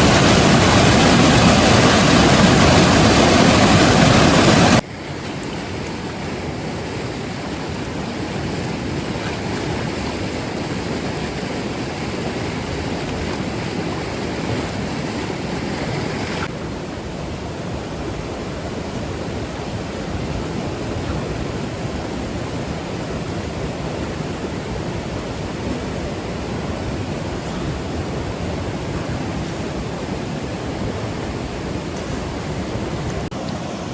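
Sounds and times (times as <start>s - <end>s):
flowing water rushing: 0.0s - 33.9s.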